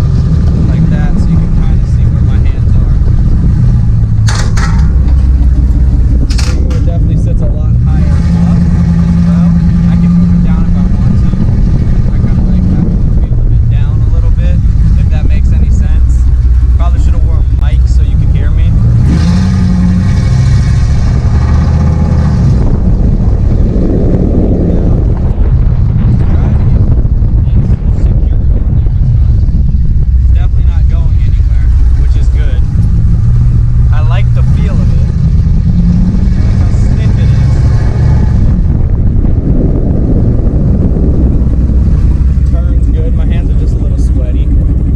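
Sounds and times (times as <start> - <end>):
pickup engine and exhaust driving: 0.0 - 44.9
wind and road noise: 0.0 - 44.9.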